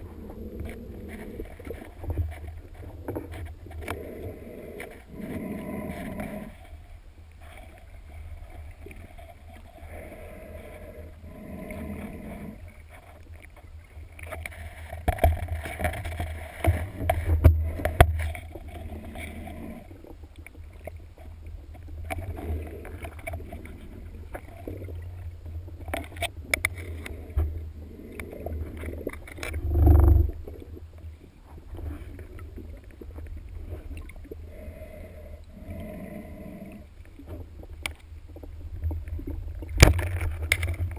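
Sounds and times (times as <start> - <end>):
muffled underwater water rumble: 0.0 - 40.9.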